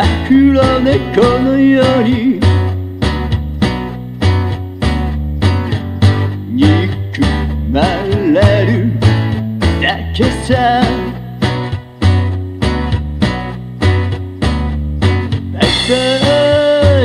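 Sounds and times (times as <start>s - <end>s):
pop band with guitar and bass: 0.0s - 17.0s.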